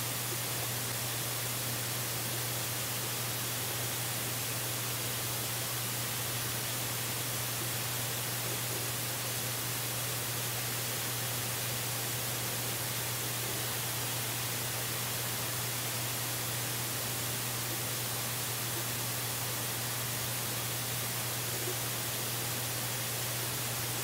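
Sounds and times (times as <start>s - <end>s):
static-like hiss: 0.0s - 24.0s.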